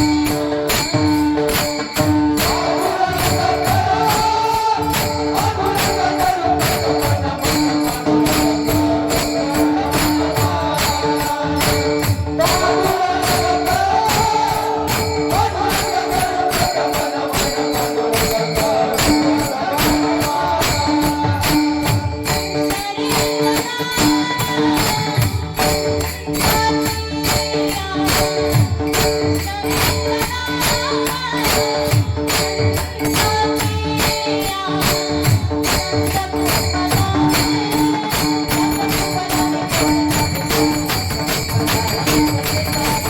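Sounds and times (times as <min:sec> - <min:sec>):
hand cymbals keeping a fast beat: 0:00.0 - 0:43.0.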